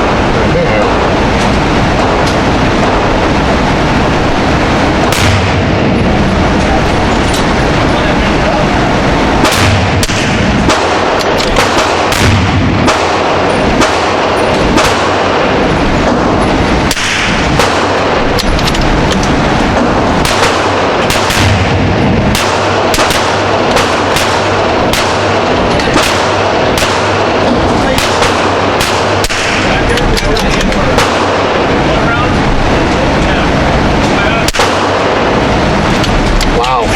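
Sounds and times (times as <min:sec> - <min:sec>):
gunshots: 0:00.0 - 0:36.9
loud background noise: 0:00.0 - 0:36.9.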